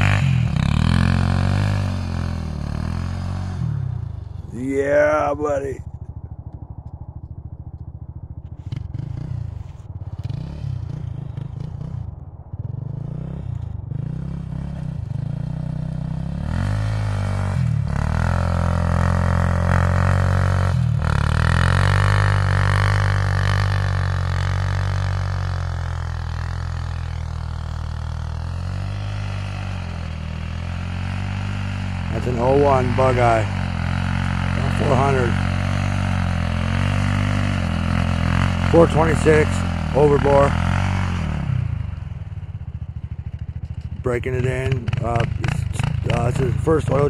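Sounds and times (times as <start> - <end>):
quad engine revving: 0.0 - 5.7, 8.6 - 12.0, 12.7 - 42.9, 43.7 - 47.0.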